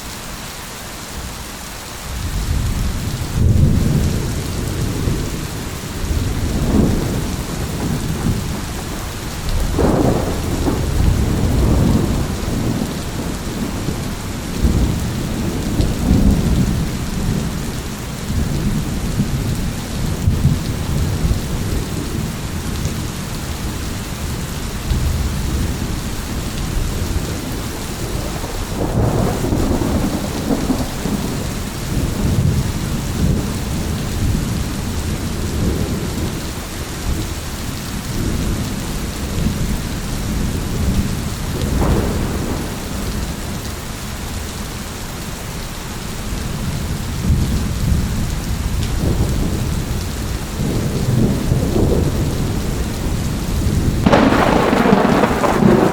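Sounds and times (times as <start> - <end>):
heavy rain: 0.0 - 55.9
rolling thunder: 2.2 - 23.1, 24.9 - 36.4, 37.8 - 43.7, 46.6 - 55.9.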